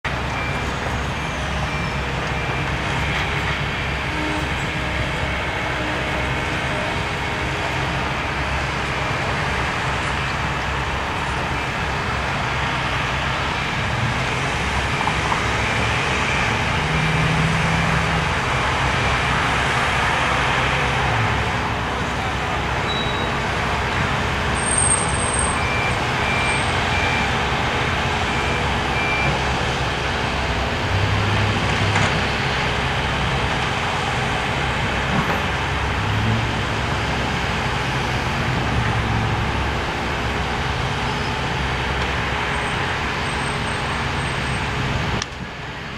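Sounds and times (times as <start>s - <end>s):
excavator diesel engine: 0.0s - 45.9s
passing road traffic: 0.0s - 45.9s.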